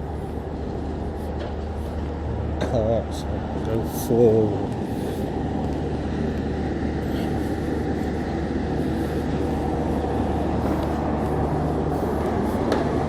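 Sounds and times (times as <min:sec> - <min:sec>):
low machinery engine hum: 0:00.0 - 0:13.0.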